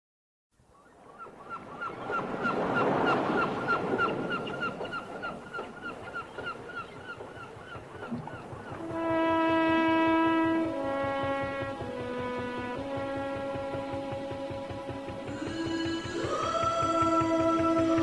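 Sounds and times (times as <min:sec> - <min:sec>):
bird honking calls: 0:00.8 - 0:18.0.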